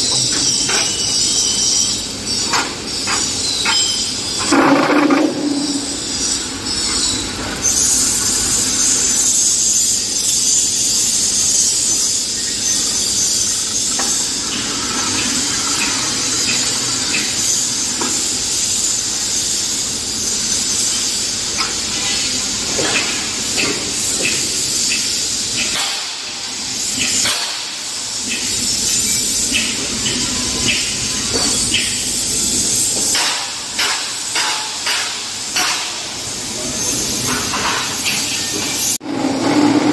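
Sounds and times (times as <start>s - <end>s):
machine hissing: 0.0s - 39.9s.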